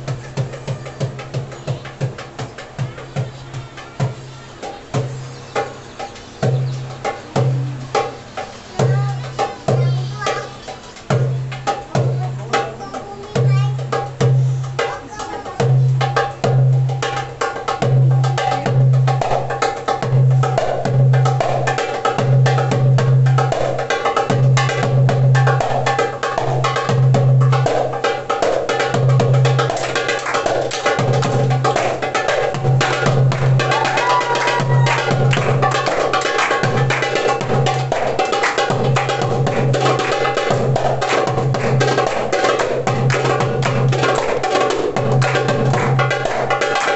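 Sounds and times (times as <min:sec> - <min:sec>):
darbuka drum strokes: 0:00.0 - 0:46.9.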